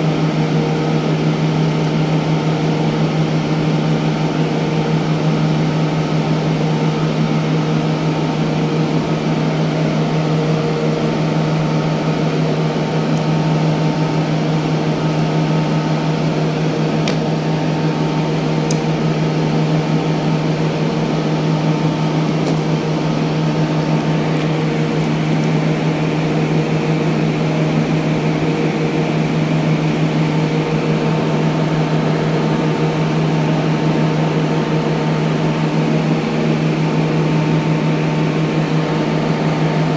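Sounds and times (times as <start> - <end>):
steady low machine hum: 0.0 - 39.9.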